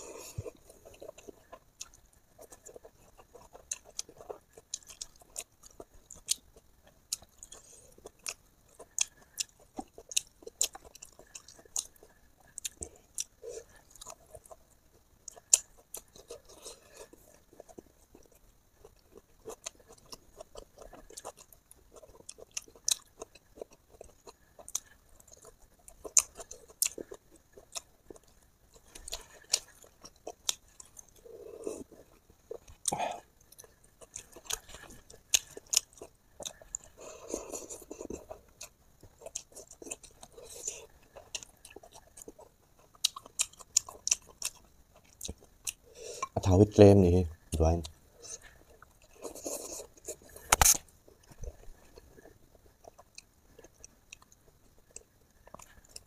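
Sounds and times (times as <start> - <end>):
person chewing food: 0.0 - 46.4, 47.4 - 56.0.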